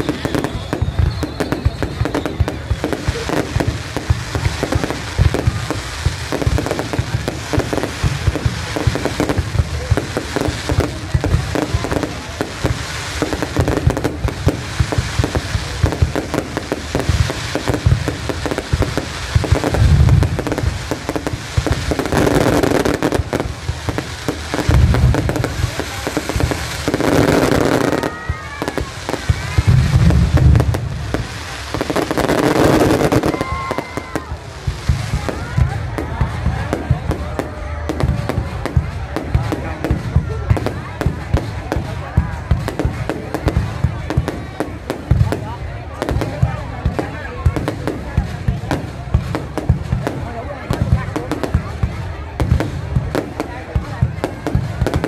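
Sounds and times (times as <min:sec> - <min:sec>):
deep fireworks booms: 0:00.0 - 0:55.0
fireworks crackling and popping: 0:00.0 - 0:55.0.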